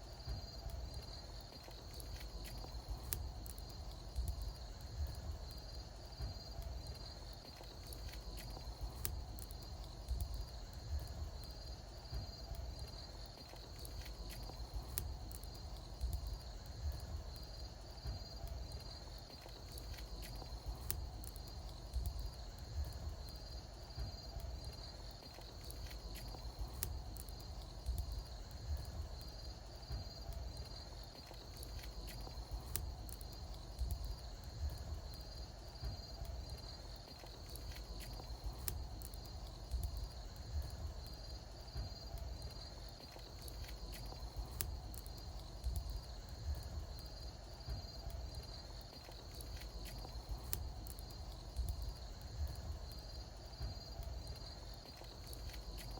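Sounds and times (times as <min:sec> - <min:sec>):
bonfire crackling and popping: 0:00.0 - 0:55.9
insects trilling: 0:00.0 - 0:55.9.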